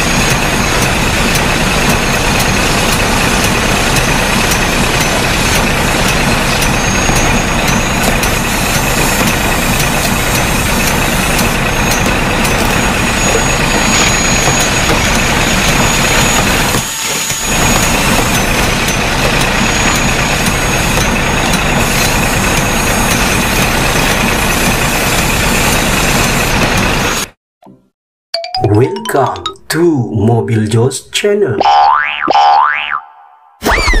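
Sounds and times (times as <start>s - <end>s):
heavy vehicle engine running: 0.0s - 27.4s.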